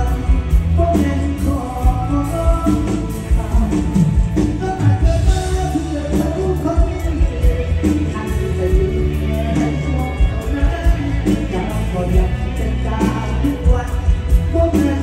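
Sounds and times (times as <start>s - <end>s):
heavy bass: 0.0s - 15.0s
loud live band music: 0.0s - 15.0s
steady drum beat: 0.0s - 15.0s.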